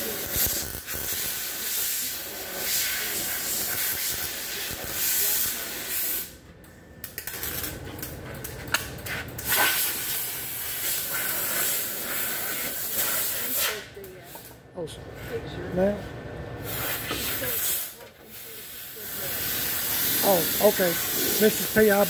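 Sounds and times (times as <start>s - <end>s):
welder arc crackling and hissing: 0.0s - 7.8s, 8.8s - 14.5s, 16.6s - 22.0s.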